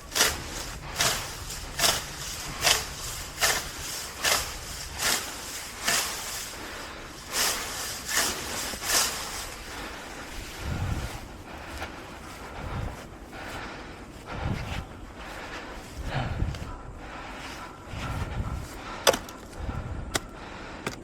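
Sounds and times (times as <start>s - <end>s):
heavy fast breathing: 0.0s - 21.0s.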